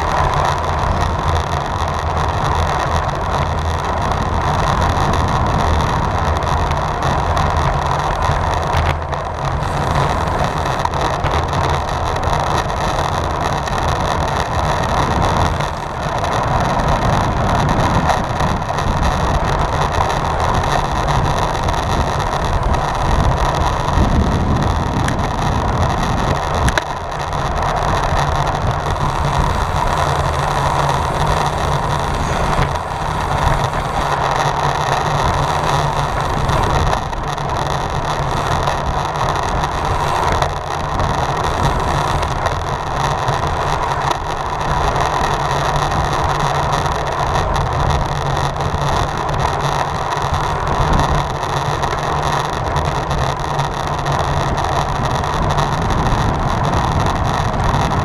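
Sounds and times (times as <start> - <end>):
tyres rumbling on road: 0.0 - 58.0
wind rushing over microphone: 0.0 - 58.0.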